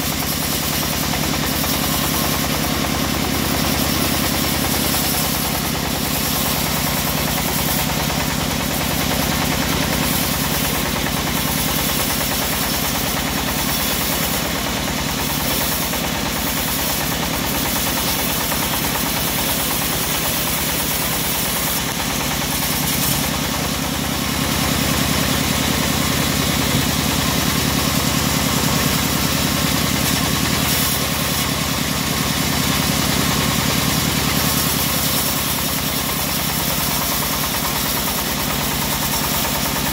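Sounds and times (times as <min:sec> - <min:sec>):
bandsaw blade sawing log: 0:00.0 - 0:39.9.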